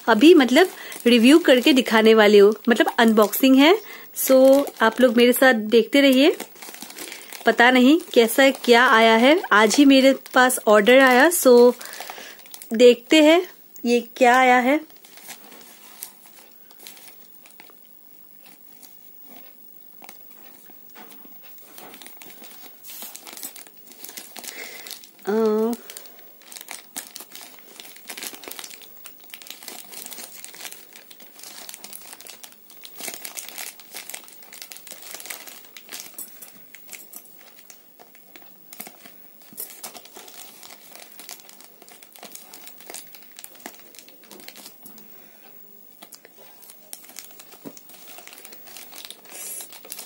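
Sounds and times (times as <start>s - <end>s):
plastic mailer bag crinkling: 0.0s - 45.2s, 45.9s - 50.0s.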